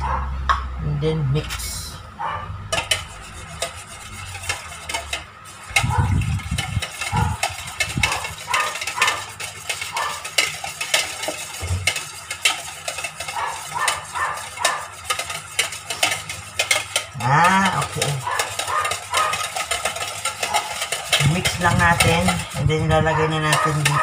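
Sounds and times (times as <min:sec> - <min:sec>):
utensil scraping mixing bowl: 0:02.7 - 0:24.0.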